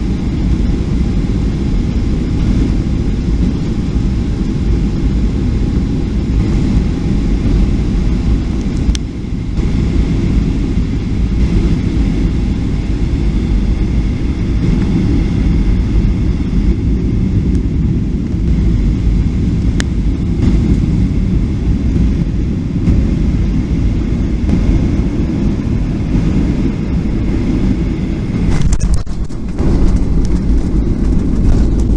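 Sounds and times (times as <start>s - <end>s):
airplane engine rumble: 0.0s - 31.9s.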